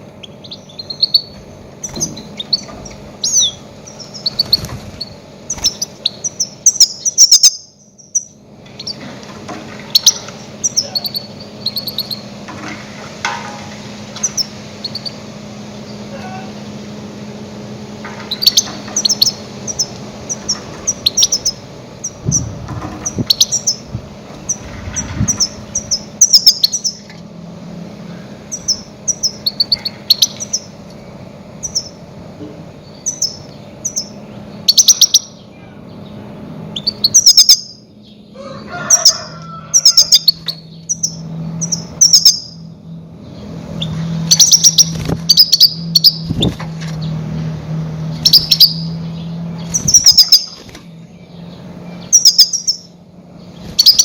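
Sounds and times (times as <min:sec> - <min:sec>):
goldfinch chirping: 0:00.0 - 0:09.1, 0:09.8 - 0:12.3, 0:14.2 - 0:16.5, 0:18.1 - 0:27.2, 0:28.1 - 0:31.0, 0:31.6 - 0:32.0, 0:32.8 - 0:38.2, 0:38.8 - 0:47.2, 0:48.0 - 0:54.0.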